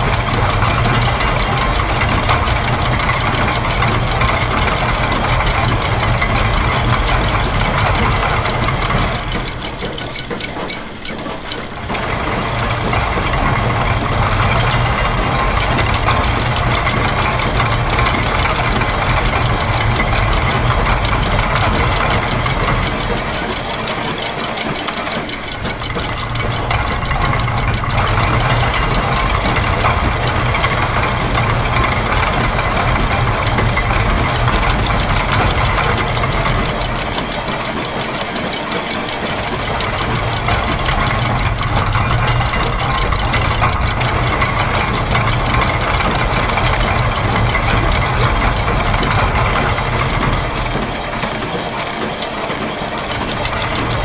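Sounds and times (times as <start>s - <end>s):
mechanical ticking and clattering: 0.0s - 54.0s.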